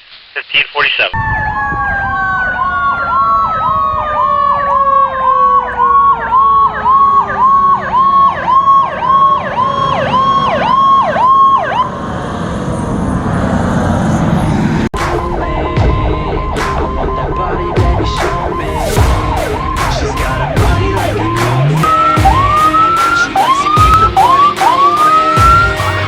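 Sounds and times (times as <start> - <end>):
electronic siren wailing: 1.1 - 26.0
mechanical siren winding down: 1.2 - 26.0
vehicle rumble: 1.8 - 26.0.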